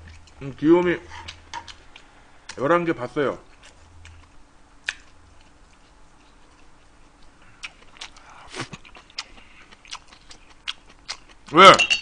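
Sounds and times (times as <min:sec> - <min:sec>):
person chewing: 0:00.0 - 0:00.5, 0:01.2 - 0:02.6, 0:03.4 - 0:11.6.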